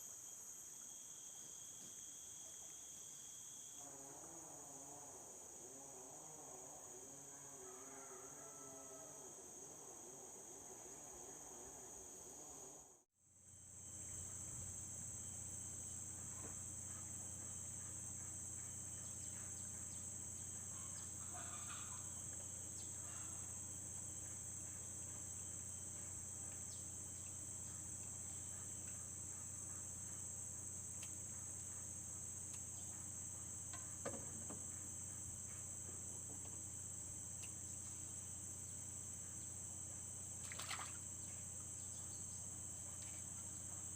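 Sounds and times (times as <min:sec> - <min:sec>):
insects trilling: 0:00.0 - 0:12.8, 0:13.4 - 0:43.9.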